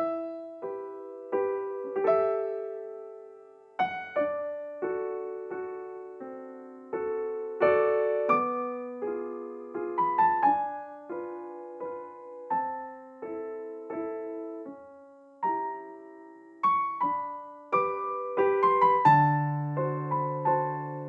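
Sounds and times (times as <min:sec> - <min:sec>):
solo piano waltz: 0:00.0 - 0:21.0.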